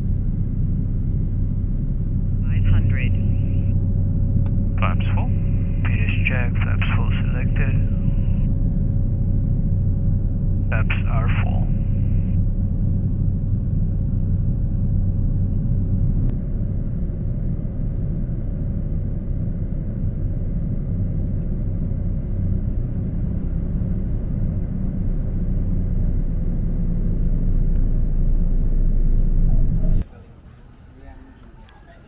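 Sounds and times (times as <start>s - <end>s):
faint steady whine: 0.0s - 32.0s
turboprop engine drone: 0.0s - 32.0s.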